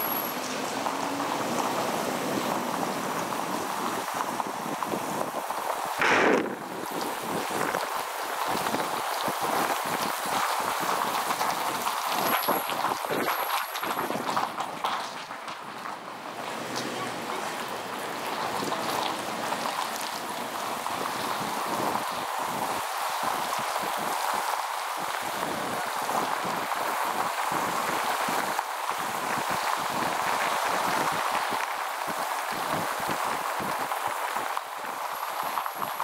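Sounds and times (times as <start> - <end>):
car road and wind noise: 0.0 - 36.0.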